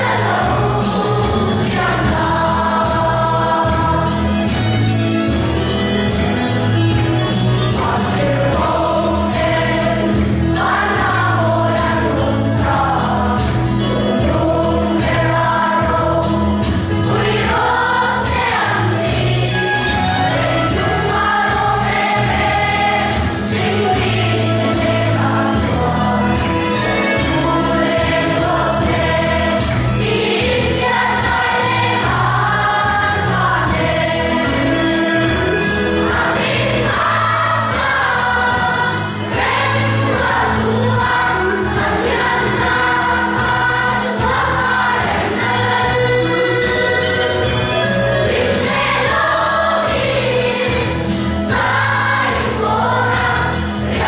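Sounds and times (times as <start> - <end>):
children's choir singing a hymn: 0.0 - 54.0
instrumental bass accompaniment: 0.0 - 54.0.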